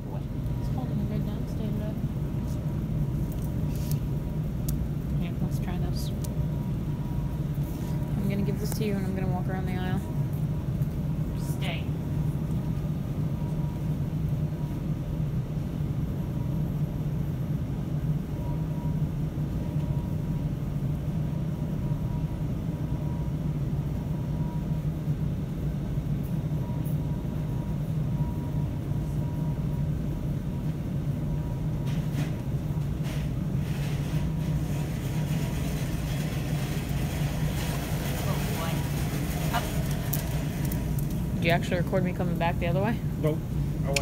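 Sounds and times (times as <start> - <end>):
building machinery droning hum: 0.0 - 44.0.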